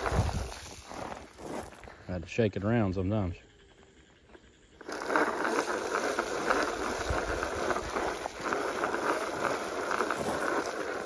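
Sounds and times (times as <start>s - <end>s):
spreader rattling hiss: 0.0s - 1.9s, 3.9s - 11.0s.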